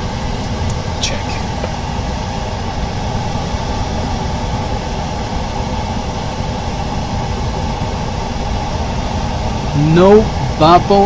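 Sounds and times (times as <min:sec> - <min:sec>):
machine running drone with hiss: 0:00.0 - 0:11.0.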